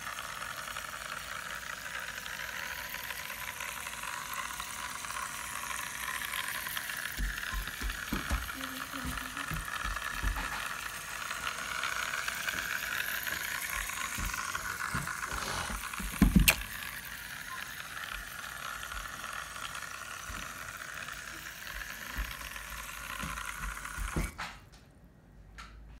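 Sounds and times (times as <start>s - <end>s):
toy boat motor buzzing: 0.0s - 24.4s.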